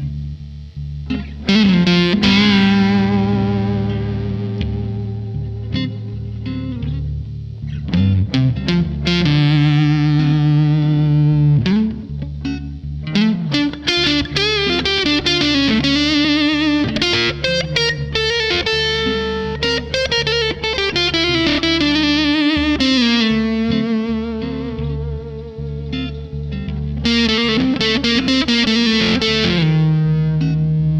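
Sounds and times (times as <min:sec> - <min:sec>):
fuzz electric guitar lead: 0:00.0 - 0:30.9.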